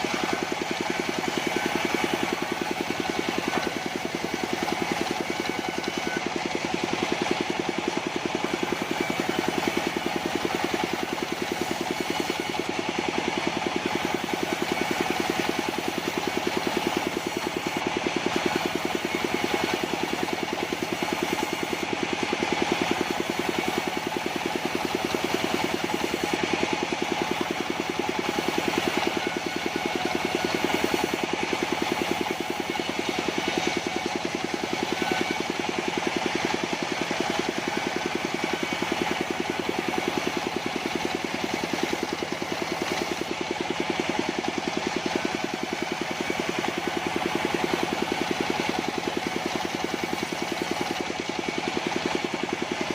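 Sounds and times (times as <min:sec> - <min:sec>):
sawmill engine running: 0:00.0 - 0:52.9.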